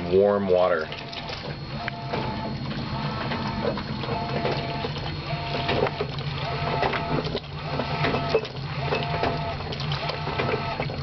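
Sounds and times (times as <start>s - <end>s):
washing machine motor whine: 0.0s - 11.0s
water and clothes churning: 0.0s - 11.0s.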